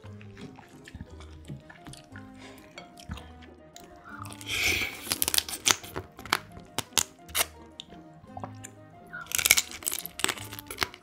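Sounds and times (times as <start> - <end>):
crab shell crunching: 0.0 - 11.0
soft background music: 0.0 - 11.0
wet sucking: 0.0 - 11.0.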